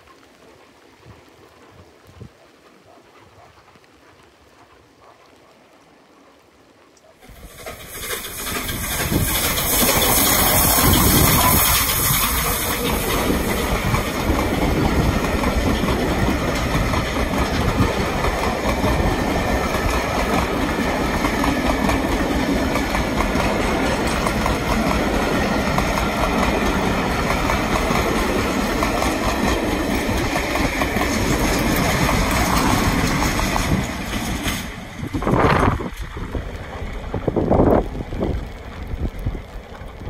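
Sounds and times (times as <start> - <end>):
train wheels rumbling on rails: 7.2 - 40.0.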